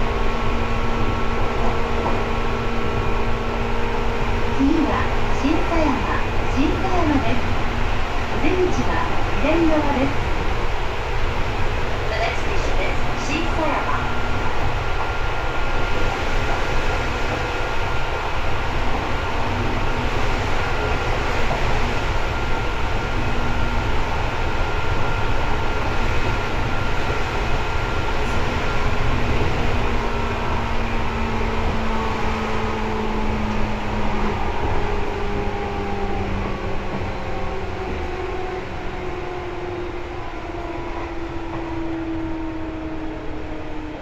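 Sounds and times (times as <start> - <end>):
train wheels and motor rumbling: 0.0 - 44.0.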